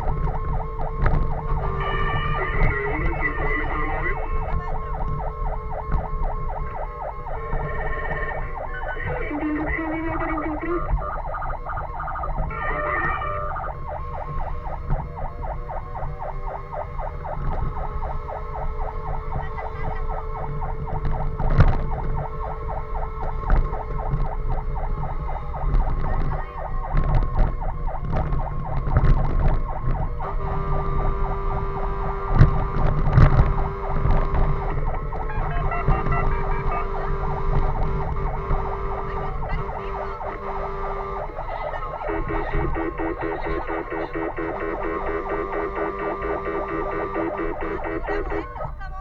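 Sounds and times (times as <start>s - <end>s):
engine and road rumble: 0.0s - 49.0s
fire engine siren: 0.0s - 49.0s.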